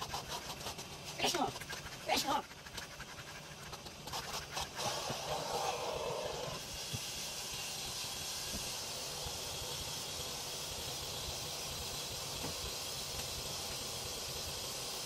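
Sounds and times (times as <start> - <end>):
steam cleaner hissing: 0.0 - 15.0.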